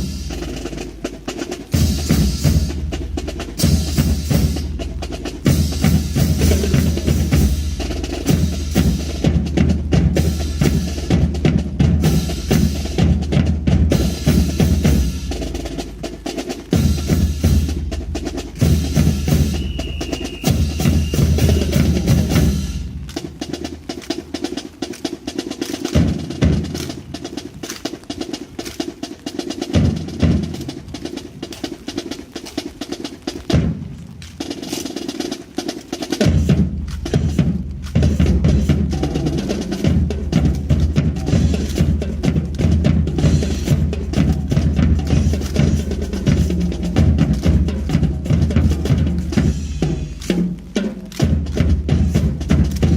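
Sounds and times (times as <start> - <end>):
heavy bass drum beats: 0.0 - 52.9
snare drum rolls: 0.0 - 52.9.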